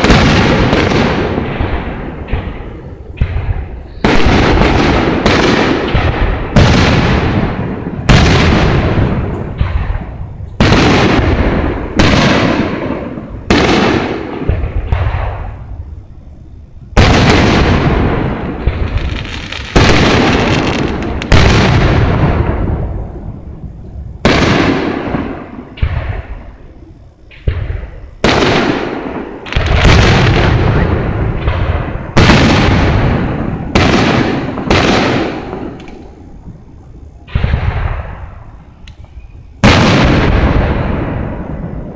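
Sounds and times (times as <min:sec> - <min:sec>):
fireworks bursting with echoing booms: 0:00.0 - 0:41.9.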